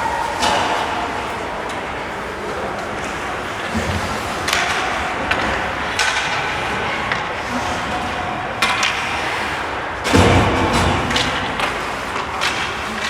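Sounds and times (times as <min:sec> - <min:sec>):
arena crowd din: 0:00.0 - 0:13.0
hockey sticks striking puck: 0:00.0 - 0:13.0.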